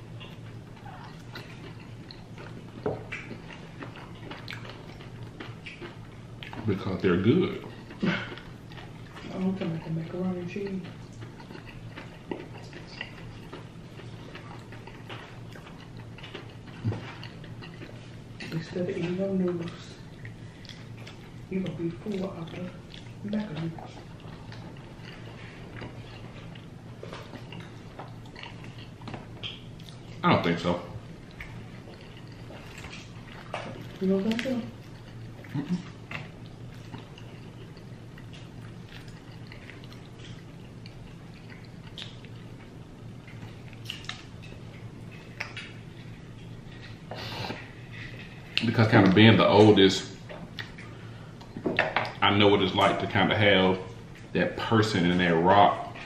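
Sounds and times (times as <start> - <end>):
wet chewing clicks and smacks: 0.0 - 53.1
low steady hum: 0.0 - 56.0.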